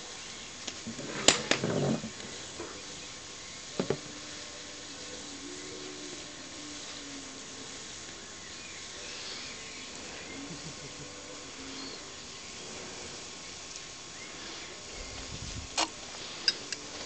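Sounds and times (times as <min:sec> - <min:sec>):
food sizzling in a wok: 0:01.4 - 0:17.0.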